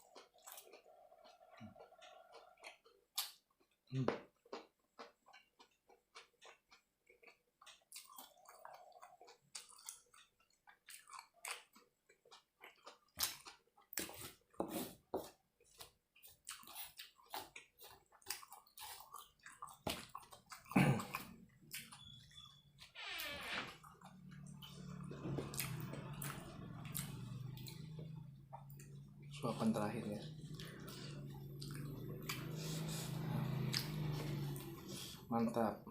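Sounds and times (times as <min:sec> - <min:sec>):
person chewing food: 0:00.0 - 0:22.7, 0:23.8 - 0:35.3.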